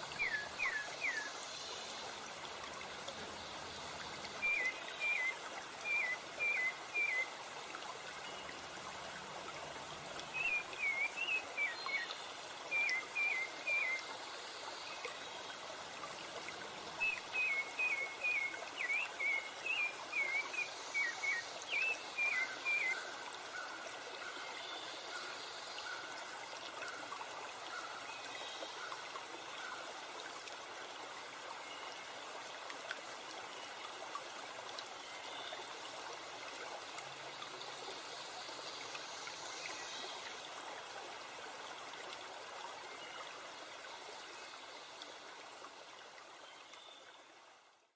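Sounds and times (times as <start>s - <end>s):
stream water running: 0.0s - 47.9s.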